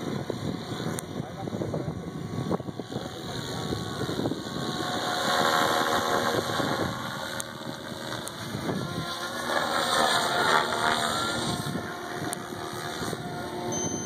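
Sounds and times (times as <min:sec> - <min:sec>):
helicopter motor whine: 0:00.0 - 0:14.0
rotor blades whooshing: 0:02.4 - 0:14.0.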